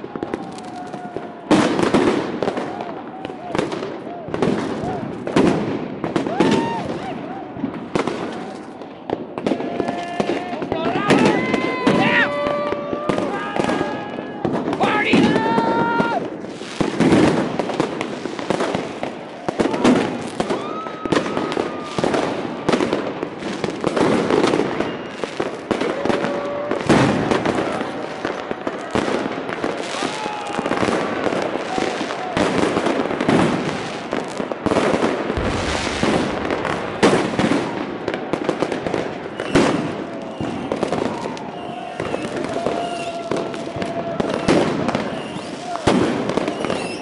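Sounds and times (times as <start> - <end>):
firecrackers banging and crackling: 0.0 - 47.0
loud firework blasts: 0.0 - 47.0.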